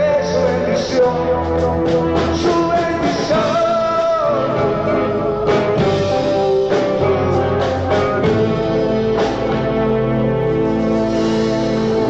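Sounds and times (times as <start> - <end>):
rock band instrumental: 0.0 - 12.0.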